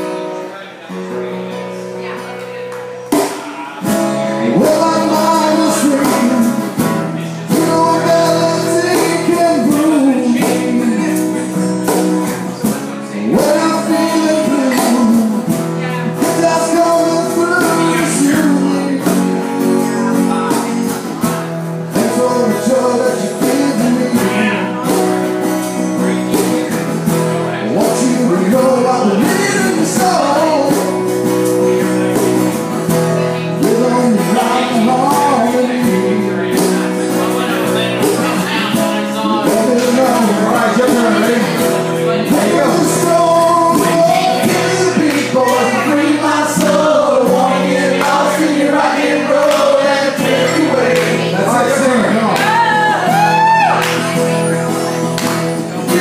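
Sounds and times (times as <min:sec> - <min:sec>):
strummed acoustic guitars: 0:00.0 - 0:56.0
man singing: 0:03.2 - 0:56.0.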